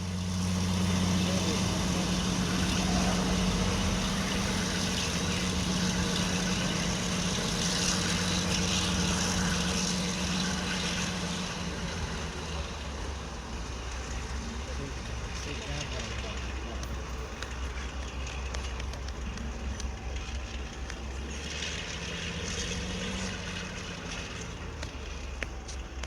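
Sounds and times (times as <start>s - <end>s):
diesel locomotive engine humming: 0.0s - 26.0s.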